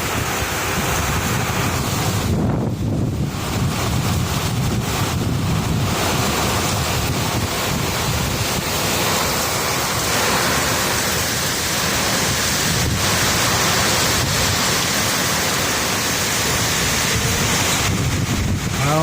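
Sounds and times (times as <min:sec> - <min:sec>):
steady hiss: 0:00.0 - 0:19.0
strong wind buffeting microphone: 0:00.0 - 0:19.0.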